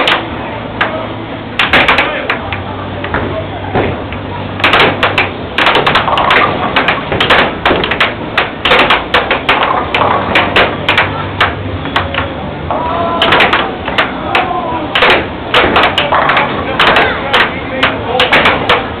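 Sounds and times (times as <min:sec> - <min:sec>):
air hockey puck clacking: 0:00.0 - 0:01.0, 0:01.6 - 0:19.0
steady low hum: 0:00.0 - 0:19.0.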